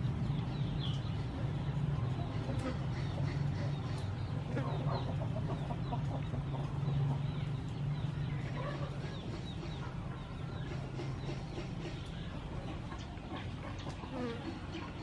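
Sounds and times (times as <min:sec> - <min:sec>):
birds chirping: 0:00.0 - 0:15.0
birds clucking: 0:00.0 - 0:15.0.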